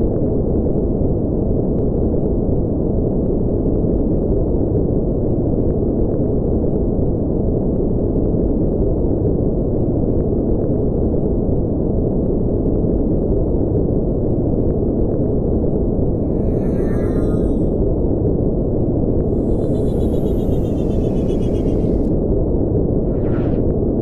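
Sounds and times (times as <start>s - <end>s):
deep steady rumbling noise: 0.0s - 24.0s.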